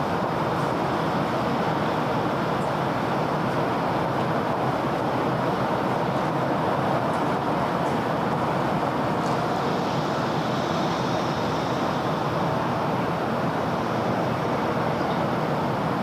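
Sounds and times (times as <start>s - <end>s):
city road traffic: 0.0s - 16.0s.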